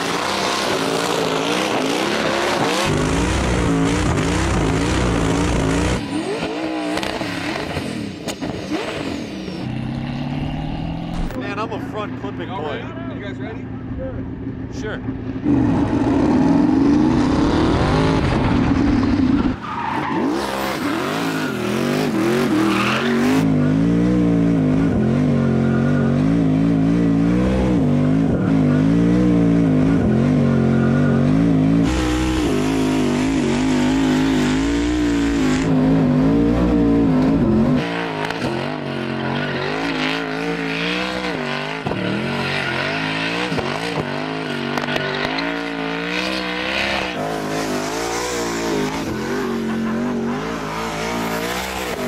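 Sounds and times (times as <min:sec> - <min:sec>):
car engine revving: 0:00.0 - 0:12.3, 0:15.1 - 0:52.0.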